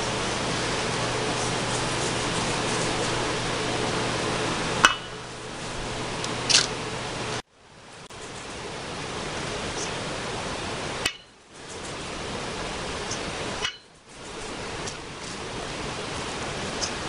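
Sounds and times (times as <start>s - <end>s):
room tone hiss: 0.0s - 17.0s.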